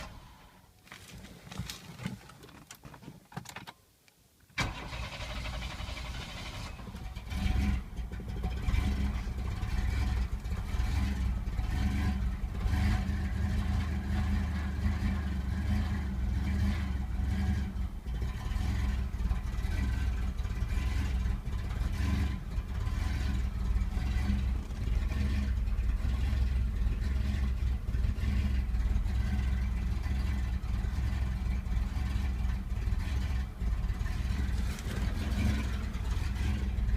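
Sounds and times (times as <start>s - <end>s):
engine cranking and idling roughly: 0.0s - 0.6s, 4.6s - 36.9s.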